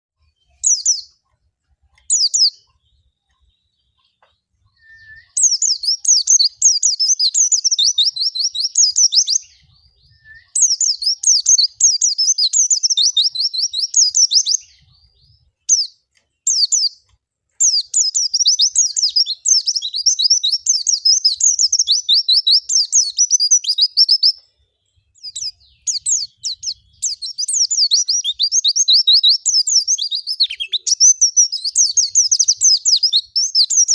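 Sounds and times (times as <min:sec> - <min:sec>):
bird high-pitched twittering song: 0:00.2 - 0:33.9.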